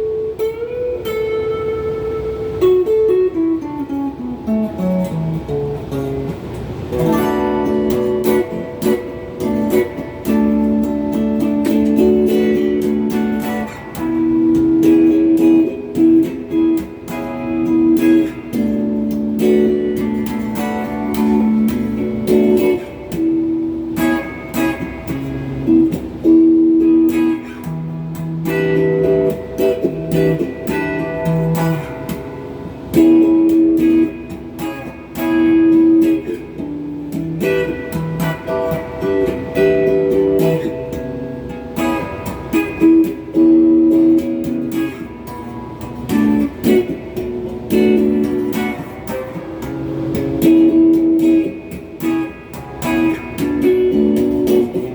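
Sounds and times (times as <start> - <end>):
electric guitar strummed chords: 0.0 - 54.9.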